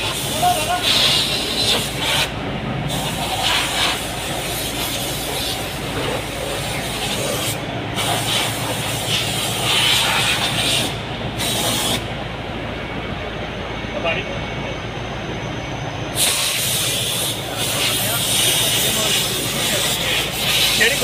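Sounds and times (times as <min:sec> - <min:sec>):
welding machine humming and hissing: 0:00.0 - 0:12.4, 0:16.1 - 0:21.0.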